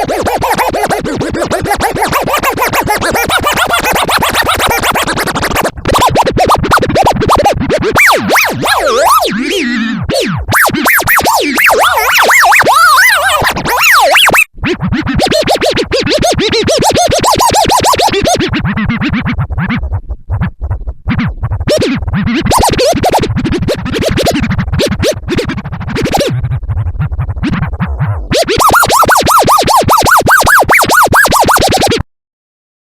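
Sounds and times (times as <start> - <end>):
turntable record scratching: 0.0 - 32.0.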